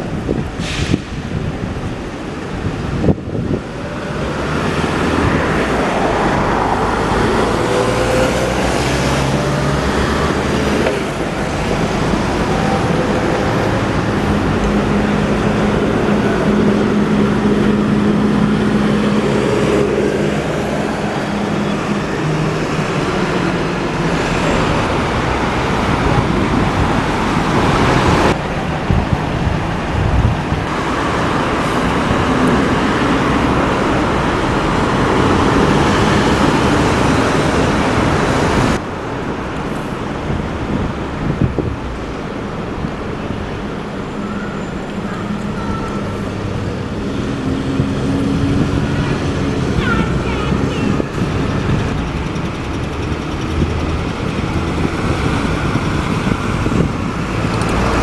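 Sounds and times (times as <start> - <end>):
bus engine: 0.0 - 58.0
passing cars: 0.0 - 58.0
road traffic: 0.0 - 58.0.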